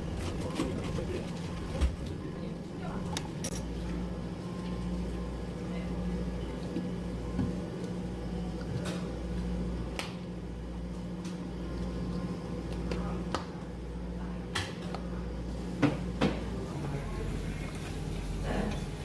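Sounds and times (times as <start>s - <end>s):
machine hum: 0.0s - 17.6s.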